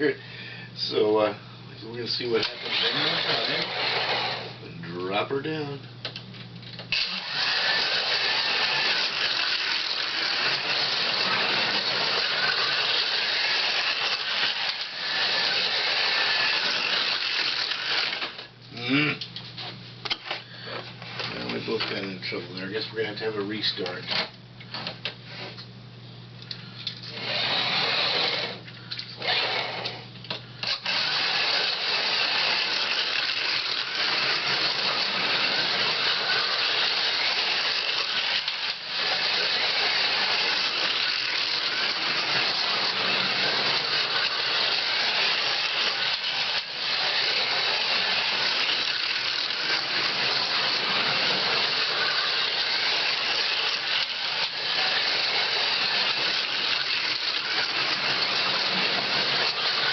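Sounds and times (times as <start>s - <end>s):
slot car motors whirring: 1.9s - 5.8s, 6.6s - 19.3s, 26.5s - 59.9s.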